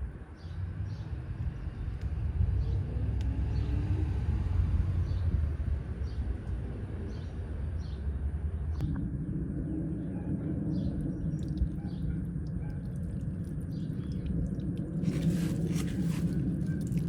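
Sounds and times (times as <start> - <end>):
hvac low rumble: 0.0 - 17.0.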